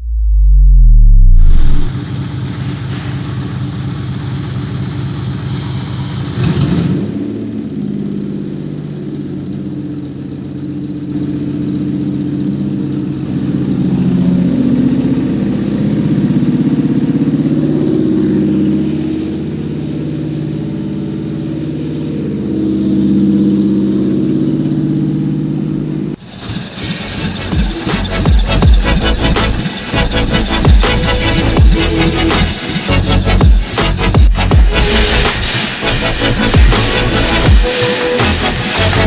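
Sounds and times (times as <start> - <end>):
engine idling and revving: 0.0 - 39.0.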